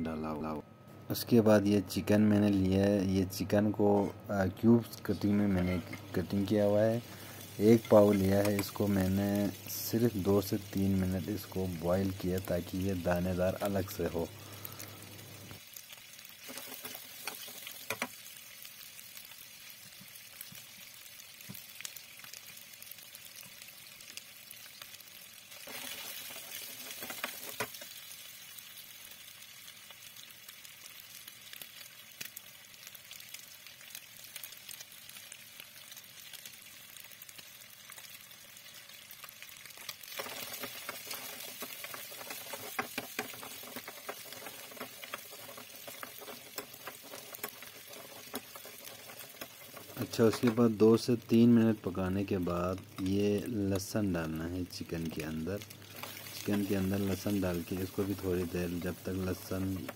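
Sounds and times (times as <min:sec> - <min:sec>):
chicken sizzling in oil: 0:05.2 - 0:59.9.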